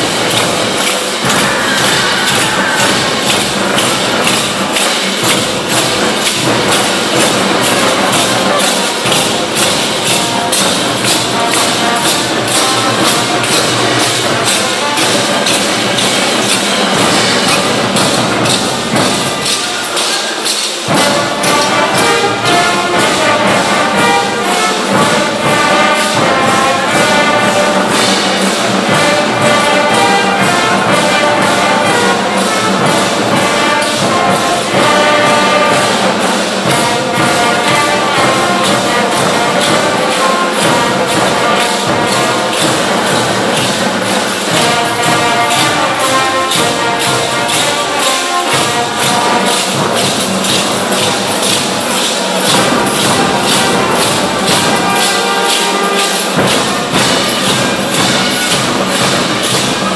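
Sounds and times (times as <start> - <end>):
brass band music: 0.0 - 59.9
drum and cymbal beat: 0.0 - 59.9.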